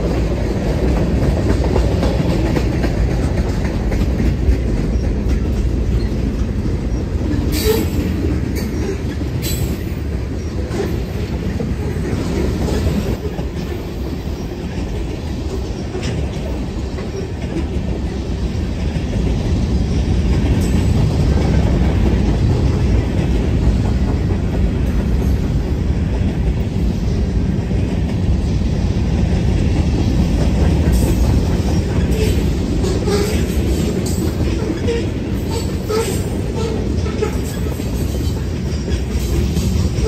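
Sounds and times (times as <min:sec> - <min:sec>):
freight train rolling past: 0:00.0 - 0:40.0.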